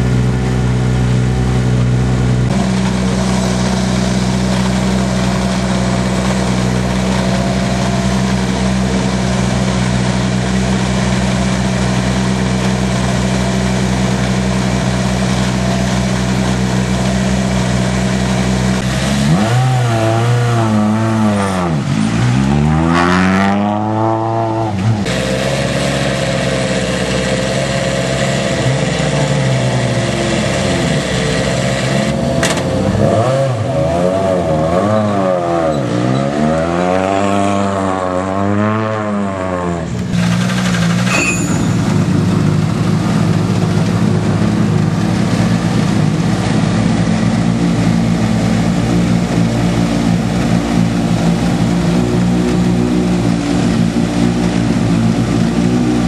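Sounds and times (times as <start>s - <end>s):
car engine idling: 0.0s - 22.7s, 24.7s - 33.7s, 39.8s - 56.0s
rally car engines revving: 0.0s - 56.0s.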